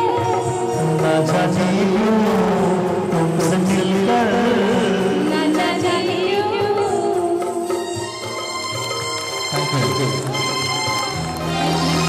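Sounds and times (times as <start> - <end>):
live band playing film song: 0.0 - 12.0.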